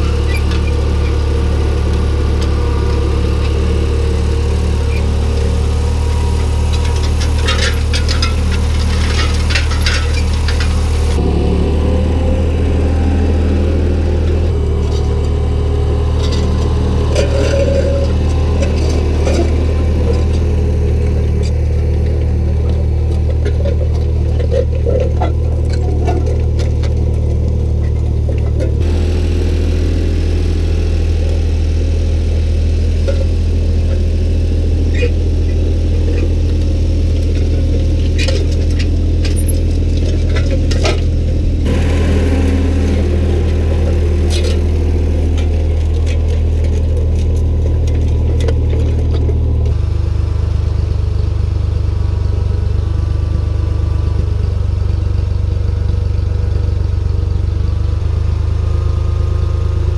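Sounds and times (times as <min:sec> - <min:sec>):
tractor engine running: 0:00.0 - 0:59.9
sharp clicks and rattles: 0:01.9 - 0:49.9.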